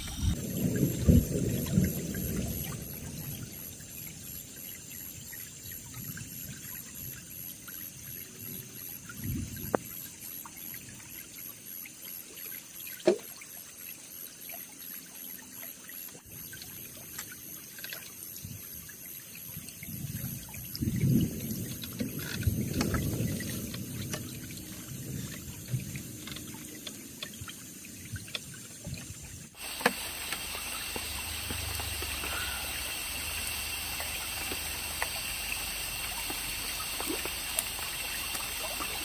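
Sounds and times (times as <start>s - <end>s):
water trickling and pouring: 0.0s - 39.0s.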